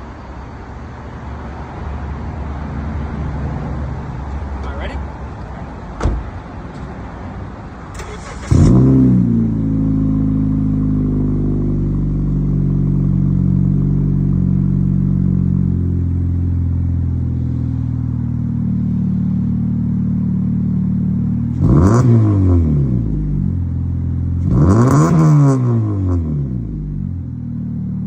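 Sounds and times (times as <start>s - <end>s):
car engine starting and idling: 2.0s - 28.0s.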